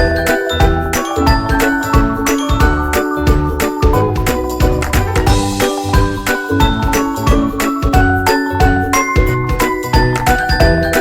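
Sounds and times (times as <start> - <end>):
upbeat music with steady beat: 0.0 - 11.0.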